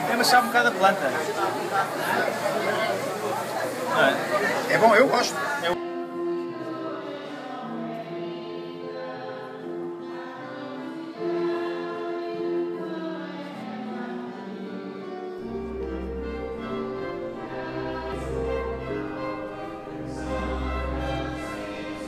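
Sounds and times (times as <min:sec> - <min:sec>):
choir singing held notes: 0:00.0 - 0:22.0.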